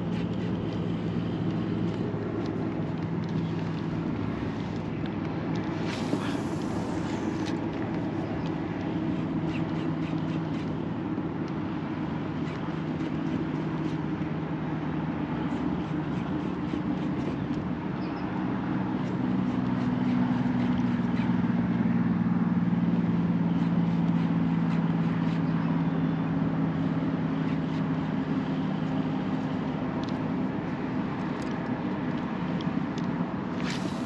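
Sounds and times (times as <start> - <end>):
distant engine humming: 0.0 - 34.0.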